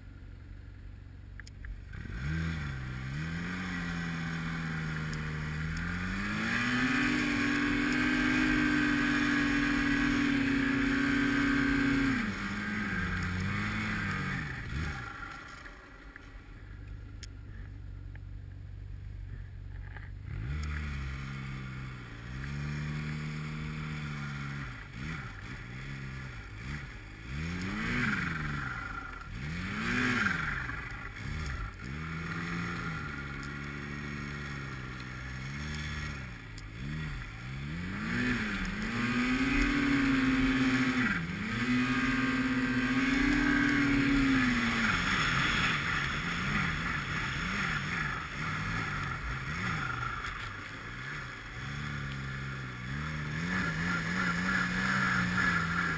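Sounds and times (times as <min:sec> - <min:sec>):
snowmobile engine revving: 0:01.9 - 0:17.7, 0:19.8 - 0:55.9.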